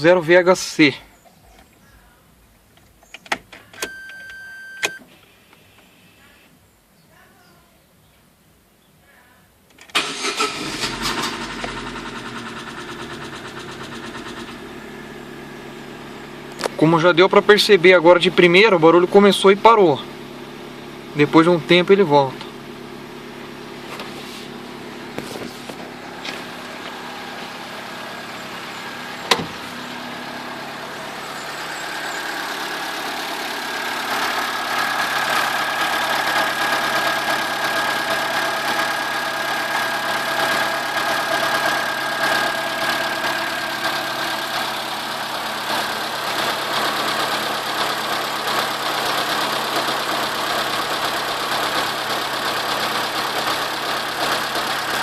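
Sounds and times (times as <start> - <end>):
car engine idling: 10.0 - 55.0.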